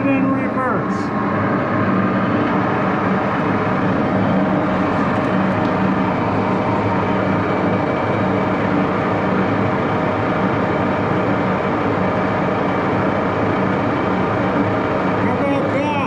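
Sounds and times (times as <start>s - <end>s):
metal lathe gears whirring: 0.0s - 16.0s.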